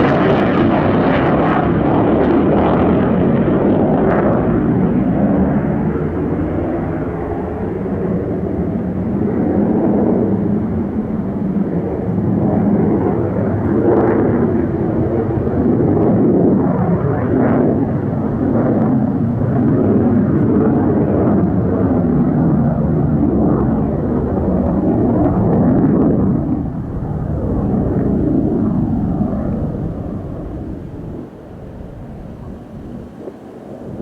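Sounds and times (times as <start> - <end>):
jet fighter roaring past: 0.0 - 34.0.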